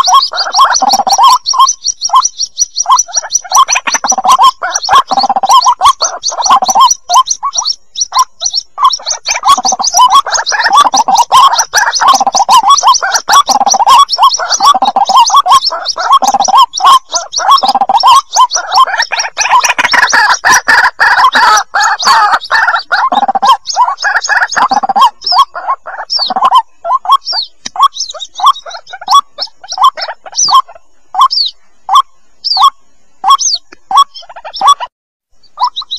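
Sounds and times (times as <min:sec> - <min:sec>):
waterhen chicks cheeping: 0:00.0 - 0:35.9.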